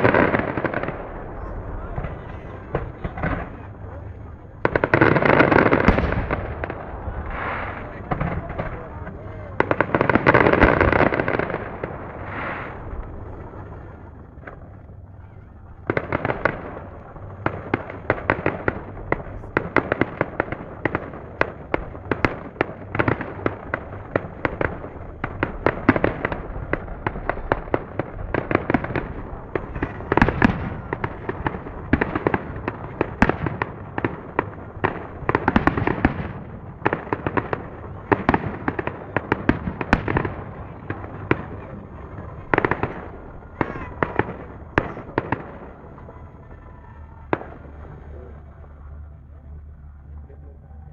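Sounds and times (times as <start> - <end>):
fireworks bangs and crackles: 0.0 - 50.6.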